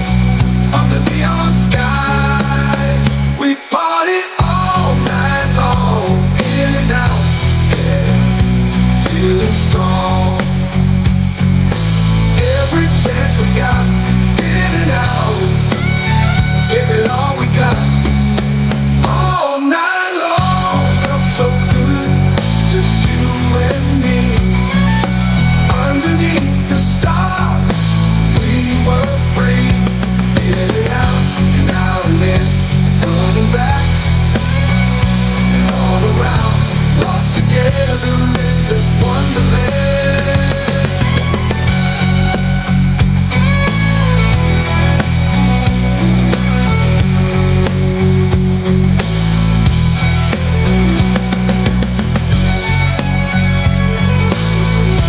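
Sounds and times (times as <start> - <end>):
rock music with heavy bass guitar: 0.0 - 55.0.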